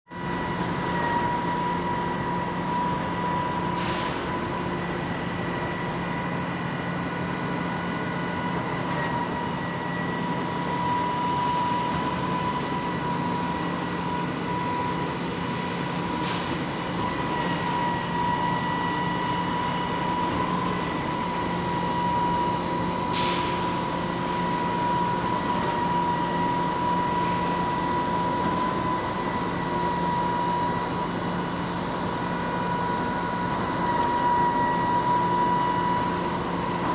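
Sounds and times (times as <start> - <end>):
machinery high whine: 0.1 - 36.9
machinery low hum and rumble: 0.1 - 36.9.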